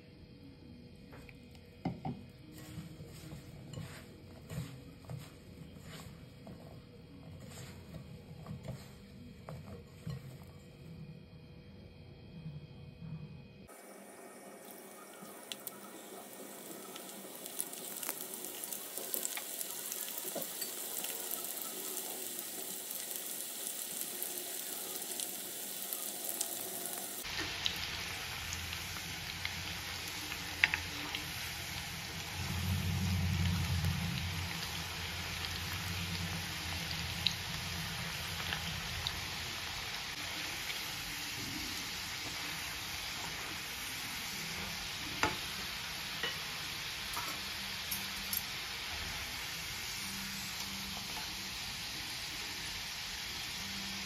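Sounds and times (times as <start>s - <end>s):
fries sizzling in hot oil: 1.8s - 10.5s, 13.7s - 54.0s.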